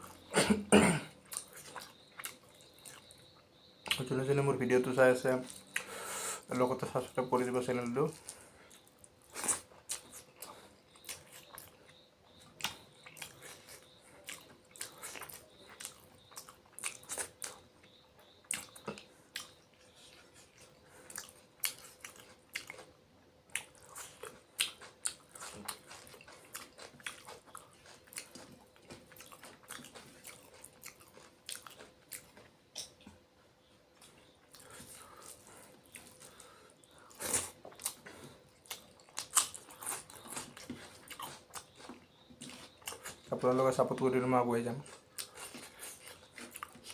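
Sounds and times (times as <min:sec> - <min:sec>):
faint steady hum: 0:00.0 - 0:46.9
person chewing food: 0:01.1 - 0:04.1, 0:05.4 - 0:06.2, 0:07.8 - 0:44.1, 0:44.7 - 0:46.9.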